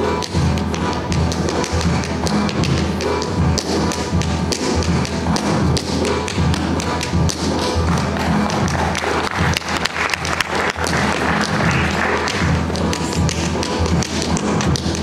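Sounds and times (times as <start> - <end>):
recorded music with bass line: 0.0 - 15.0
tap shoes clicking on stage: 0.2 - 15.0.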